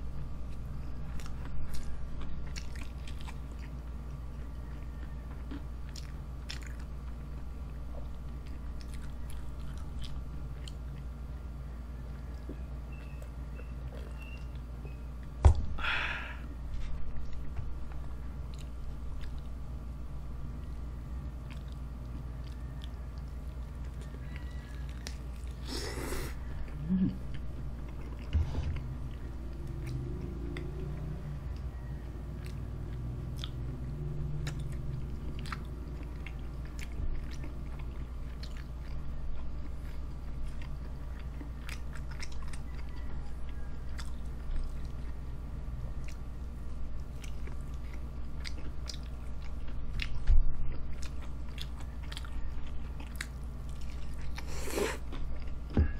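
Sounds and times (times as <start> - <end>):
steady low hum: 0.0 - 55.9
quiet chewing: 0.1 - 15.4, 16.4 - 55.9.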